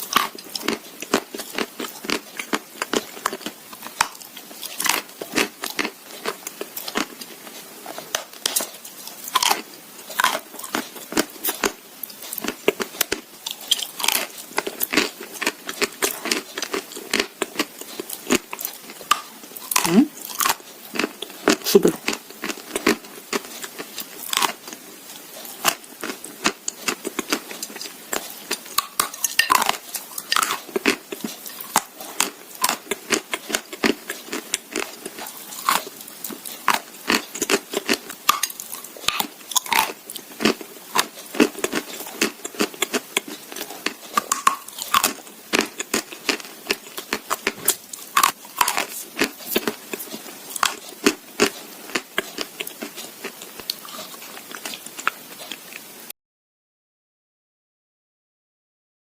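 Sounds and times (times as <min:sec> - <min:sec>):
crunching chews of clay: 0:00.0 - 0:55.7.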